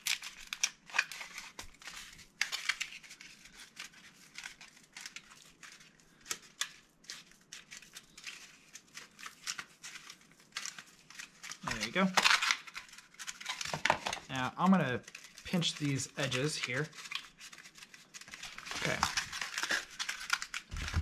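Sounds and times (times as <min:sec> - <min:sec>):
cardboard crinkling and snapping: 0:00.0 - 0:21.0.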